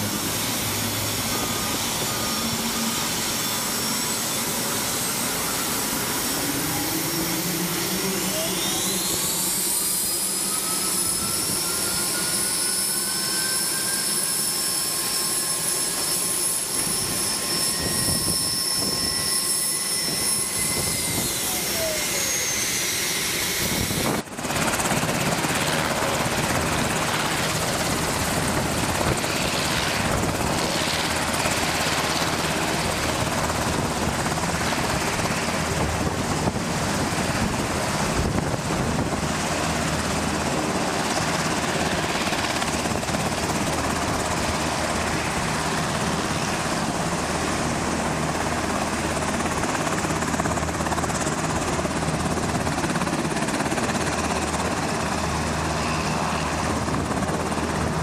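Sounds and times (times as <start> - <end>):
helicopter turbine and rotor noise: 0.0 - 58.0.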